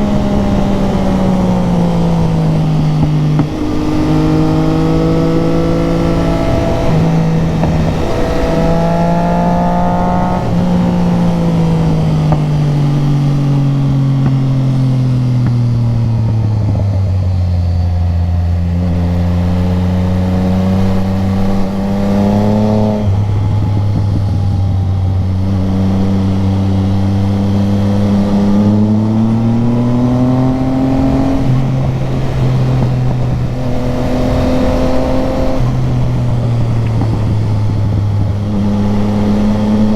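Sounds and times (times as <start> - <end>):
motorcycle engine: 0.0 - 39.9
wind rush: 0.0 - 39.9.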